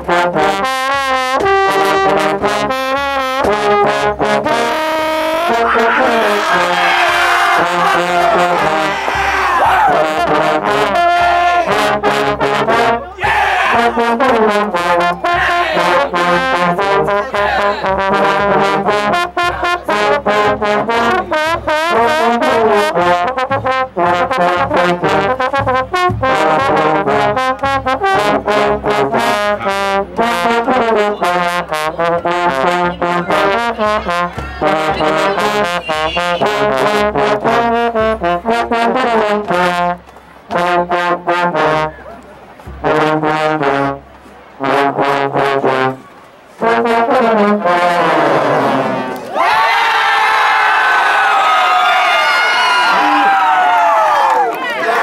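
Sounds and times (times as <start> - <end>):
trombone section playing: 0.0 - 55.0.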